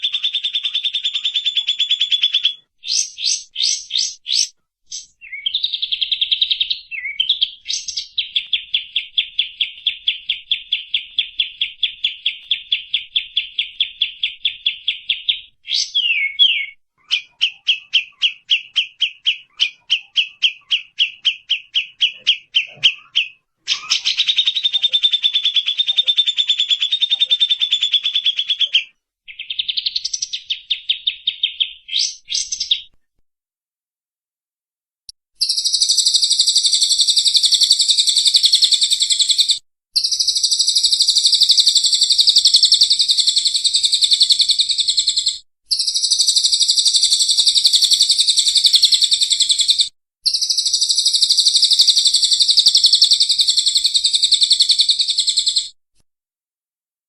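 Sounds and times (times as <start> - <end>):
buzzy rattling bird song: 0.0 - 32.9, 35.4 - 55.8
songbirds chirping and trilling: 0.0 - 33.0, 35.4 - 55.6.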